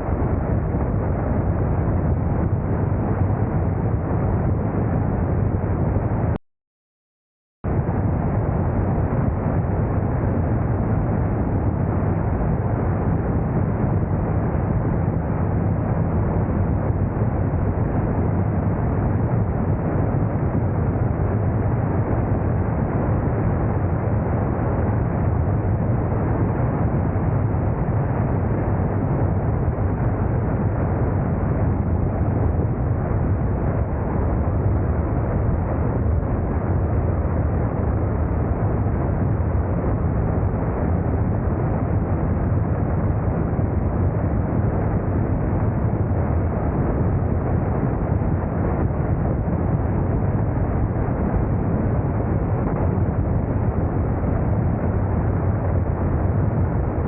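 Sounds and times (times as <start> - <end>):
steady rushing noise: 0.0 - 6.4, 7.7 - 57.0.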